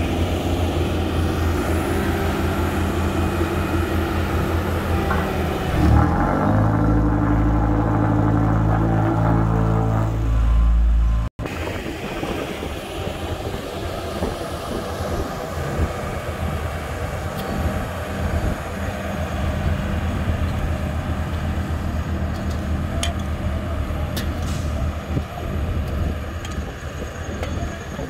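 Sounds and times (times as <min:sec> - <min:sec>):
diesel road roller engines: 0:00.0 - 0:28.0.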